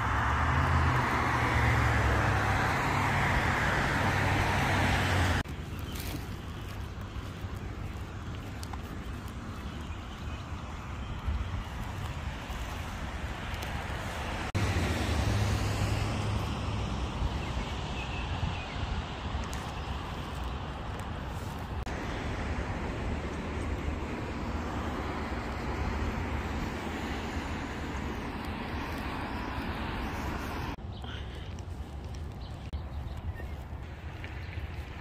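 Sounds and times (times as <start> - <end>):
road traffic rumble and hiss: 0.0 - 35.0.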